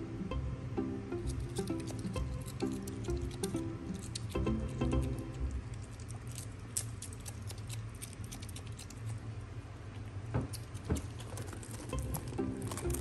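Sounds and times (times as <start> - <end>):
low steady hum: 0.0 - 13.0
otter chewing lettuce: 1.2 - 13.0.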